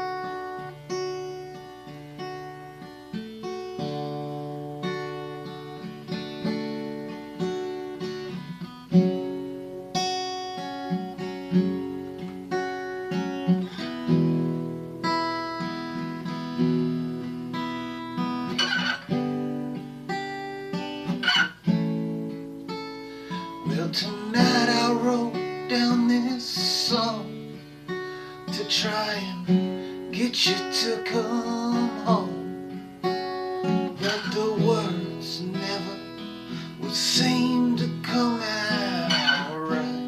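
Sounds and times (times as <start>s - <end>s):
acoustic guitar picking and strumming: 0.0s - 40.0s.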